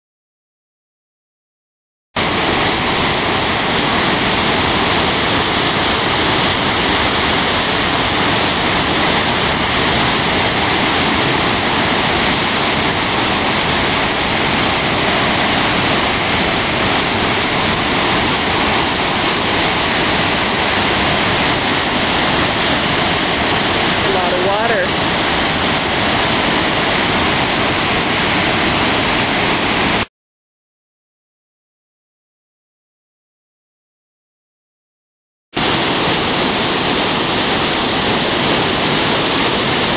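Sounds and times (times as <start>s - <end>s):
rushing water over spillway: 2.2s - 30.1s, 35.6s - 39.9s.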